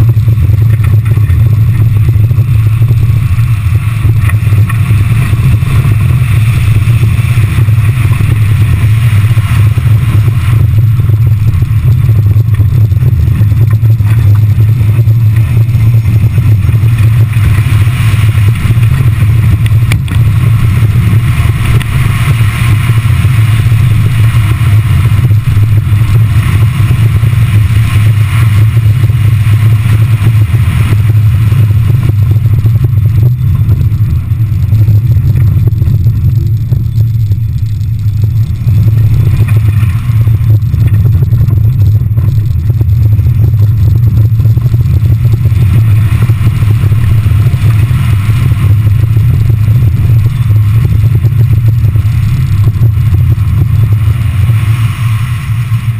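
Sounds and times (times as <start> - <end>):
car engine rumbling: 0.0 - 55.9
gravel clattering under car: 0.0 - 55.9.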